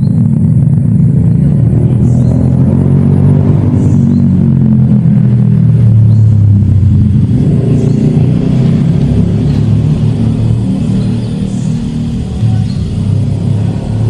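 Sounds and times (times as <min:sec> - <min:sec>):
motor engine running: 0:00.0 - 0:14.0.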